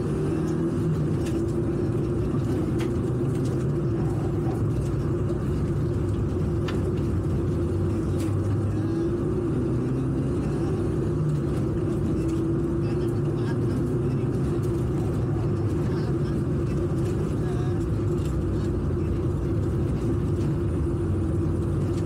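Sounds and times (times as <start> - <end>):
rally car engine under load: 0.0 - 22.0.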